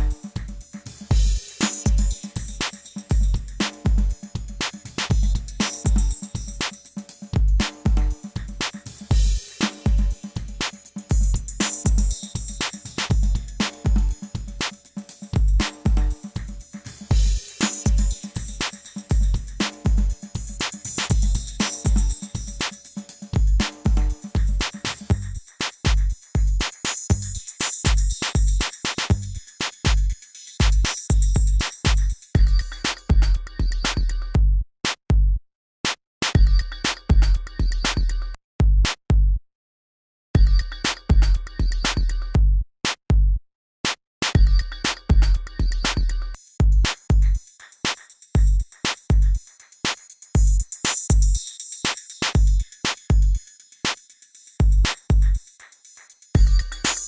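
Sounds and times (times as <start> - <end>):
electronic music: 0.0 - 33.9, 44.4 - 57.0
hi-hat clicks: 0.0 - 34.2, 44.2 - 57.0
drum machine kicks: 0.0 - 35.4, 36.2 - 39.4, 40.4 - 43.4, 44.2 - 51.4, 52.2 - 53.4, 54.6 - 55.4, 56.4 - 57.0.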